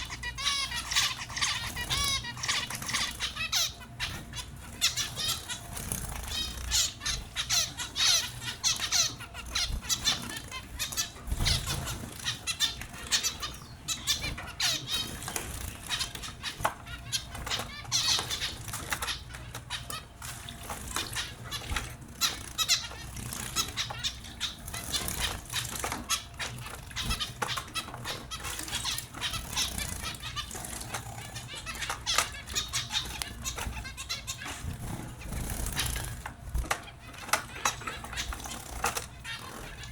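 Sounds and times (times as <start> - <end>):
finches chirping: 0.0 - 39.9
wings fluttering: 0.0 - 39.9.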